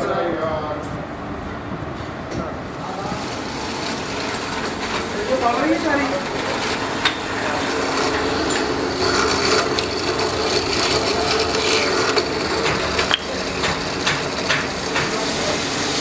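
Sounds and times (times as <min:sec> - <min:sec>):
drill press humming: 0:03.1 - 0:16.0.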